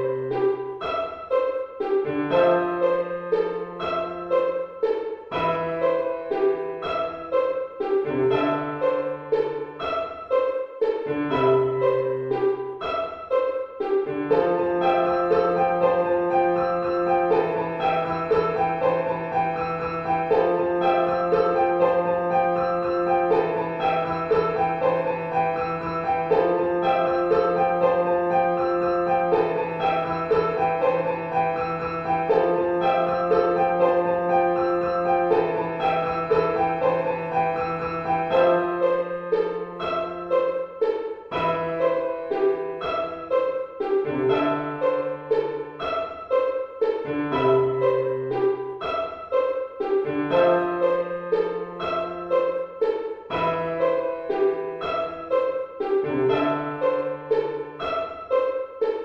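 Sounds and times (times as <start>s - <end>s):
repeating keyboard figure: 0.0s - 59.0s.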